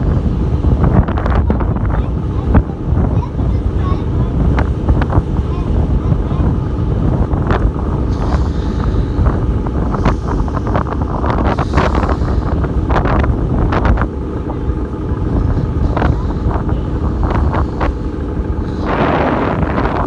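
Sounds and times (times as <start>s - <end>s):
hair flapping in wind: 0.0s - 20.0s
wind buffeting microphone: 0.0s - 20.0s.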